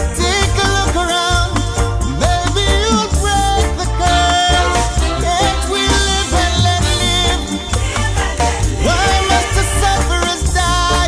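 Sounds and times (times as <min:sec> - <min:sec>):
heavy pulsing bass line: 0:00.0 - 0:11.0.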